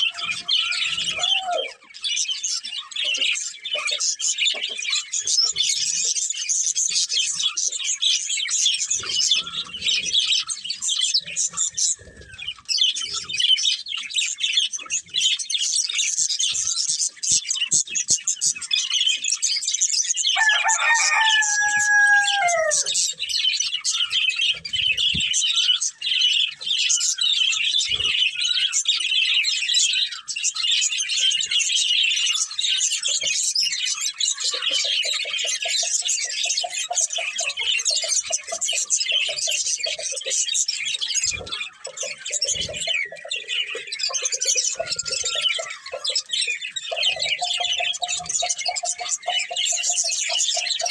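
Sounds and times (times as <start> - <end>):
budgerigars chattering: 0.0 - 50.9.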